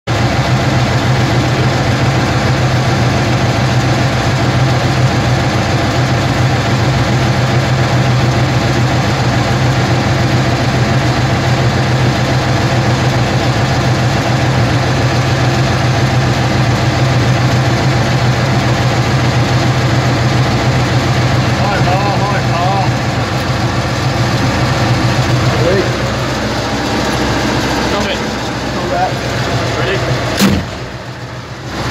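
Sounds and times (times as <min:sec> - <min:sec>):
tank diesel engine idling: 0:00.1 - 0:31.9.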